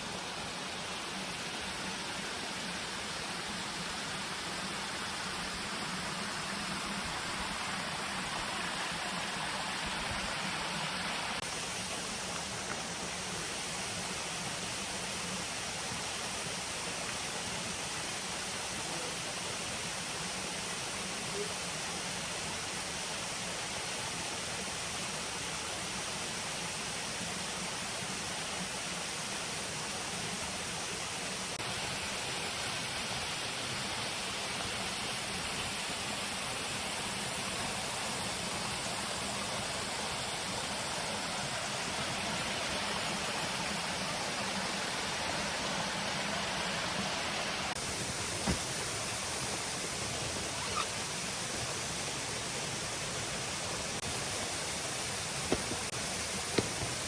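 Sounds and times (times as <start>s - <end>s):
waterfall roaring: 0.0s - 23.7s, 28.2s - 57.0s.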